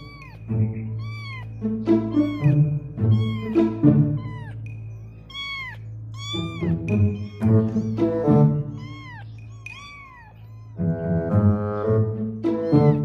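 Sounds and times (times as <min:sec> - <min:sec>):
kitten meowing: 0:00.0 - 0:11.0, 0:12.5 - 0:13.0
background music: 0:00.0 - 0:13.0.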